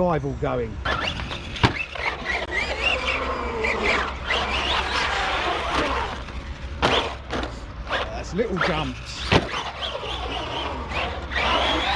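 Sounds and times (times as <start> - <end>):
electric motor whining: 0.8 - 11.9.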